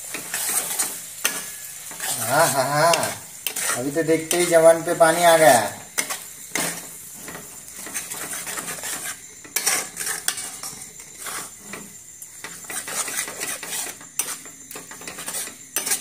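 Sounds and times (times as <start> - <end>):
metal spatula scraping a pan: 0.0 - 16.0.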